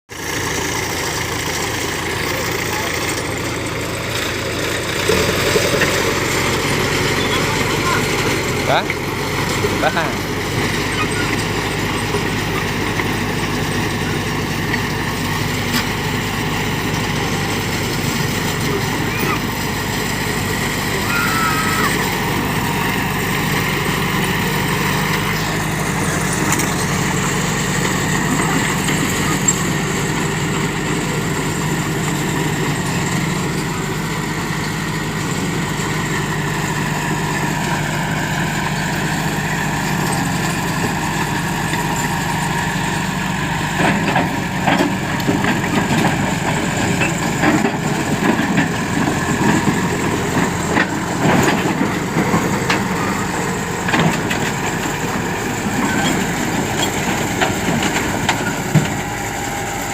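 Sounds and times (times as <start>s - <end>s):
bulldozer diesel engine running: 0.1s - 59.9s.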